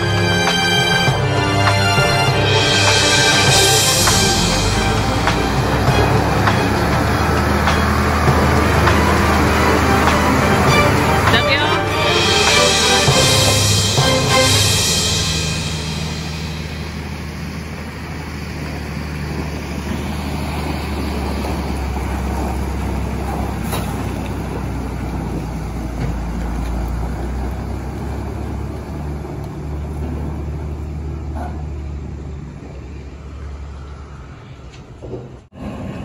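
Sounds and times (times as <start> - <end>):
heavy truck engine drone: 0.0 - 36.0.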